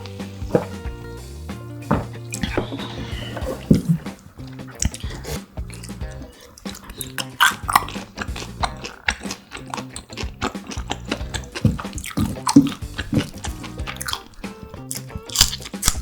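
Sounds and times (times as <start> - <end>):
low background music: 0.0 - 16.0
wet chewing and mouth clicks: 1.9 - 16.0.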